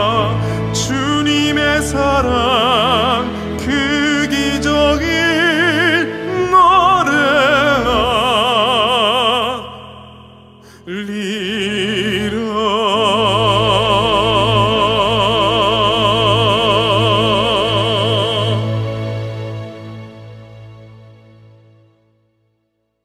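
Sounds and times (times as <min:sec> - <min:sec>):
soft instrumental accompaniment: 0:00.0 - 0:22.6.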